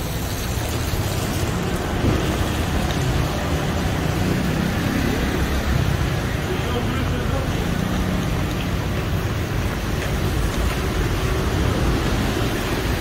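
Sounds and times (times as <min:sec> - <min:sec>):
rain hissing on wet road: 0:00.0 - 0:13.0
traffic going by: 0:00.0 - 0:13.0.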